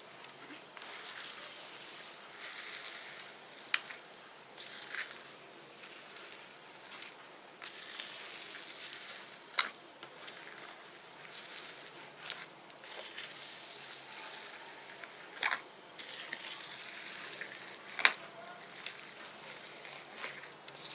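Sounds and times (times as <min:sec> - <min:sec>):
slime squishing crackly hiss: 0:00.8 - 0:04.0, 0:04.6 - 0:20.9.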